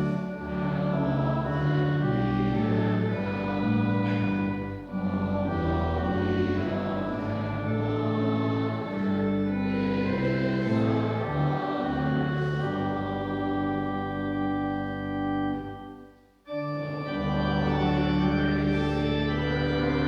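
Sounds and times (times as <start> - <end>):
congregation singing a hymn: 0.0 - 20.0
organ chords: 0.0 - 20.0.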